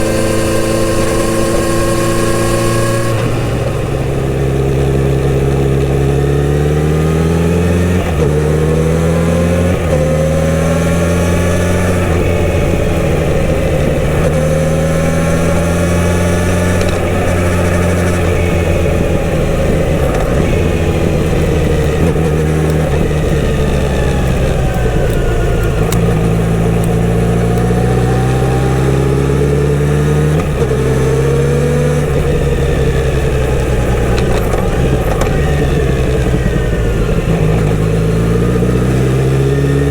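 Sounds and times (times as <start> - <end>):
motorcycle engine revving: 0.0 - 39.9
motorcycle gear shifts: 0.0 - 39.9.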